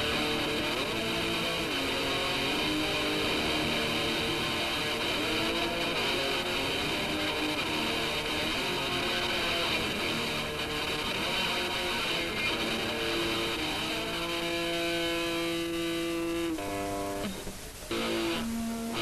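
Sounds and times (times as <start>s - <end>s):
punk guitar strumming: 0.0s - 19.0s.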